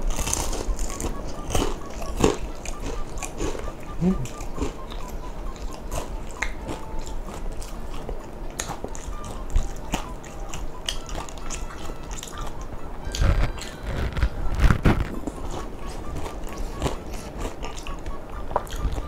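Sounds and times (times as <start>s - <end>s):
chewing food with wet mouth sounds: 0.0s - 19.0s.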